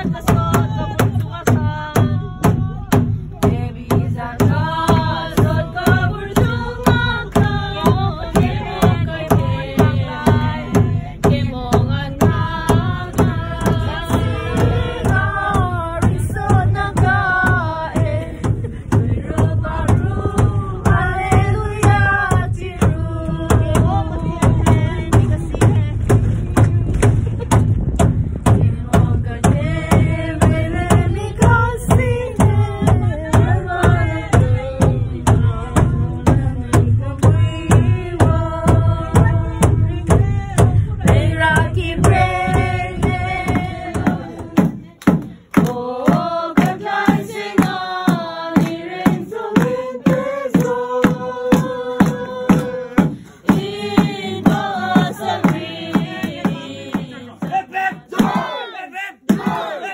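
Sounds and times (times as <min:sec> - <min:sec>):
group singing a carol: 0:00.0 - 0:26.4, 0:28.4 - 0:59.9
deep thump: 0:00.0 - 0:58.5
steady beat: 0:00.0 - 0:59.9.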